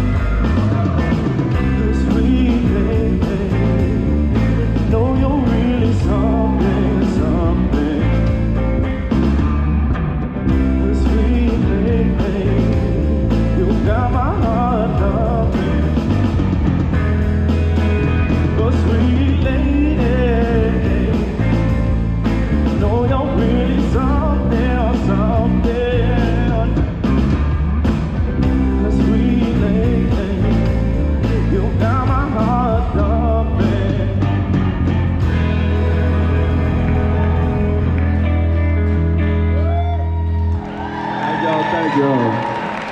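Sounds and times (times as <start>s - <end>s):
bass guitar: 0.0s - 42.9s
drums: 0.0s - 42.9s
electric guitar: 0.0s - 42.9s.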